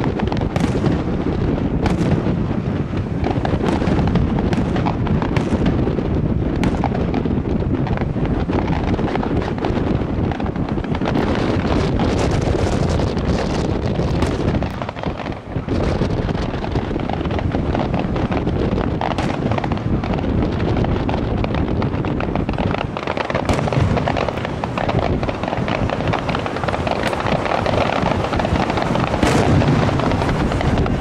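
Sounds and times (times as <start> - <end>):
firework shells bursting: 0.0 - 31.0.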